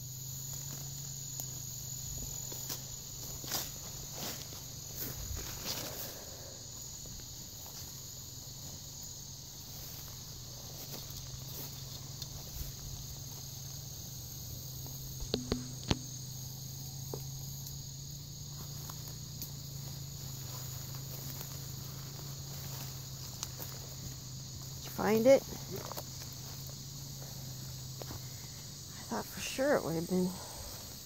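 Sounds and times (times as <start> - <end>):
chorus of insects: 0.0 - 31.0.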